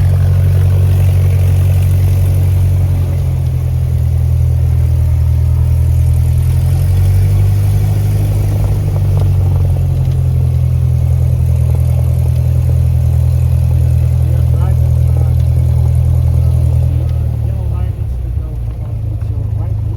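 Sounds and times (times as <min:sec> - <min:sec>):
propeller plane engine running: 0:00.0 - 0:19.9.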